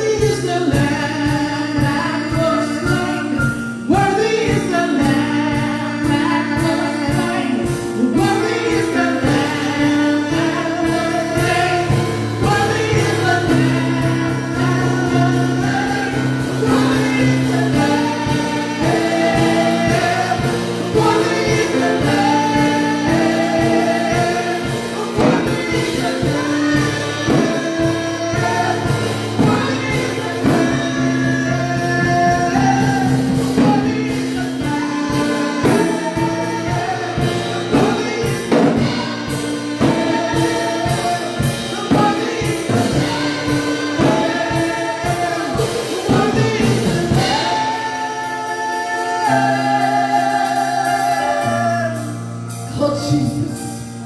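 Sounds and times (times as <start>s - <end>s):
steady drum beat: 0.0s - 52.6s
choir singing gospel: 0.0s - 54.0s
held chords: 2.6s - 54.0s.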